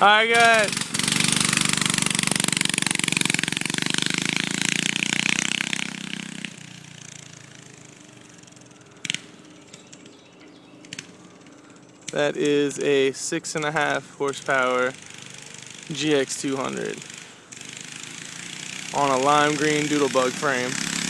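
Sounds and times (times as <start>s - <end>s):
minibike engine running hard: 0.0s - 21.0s.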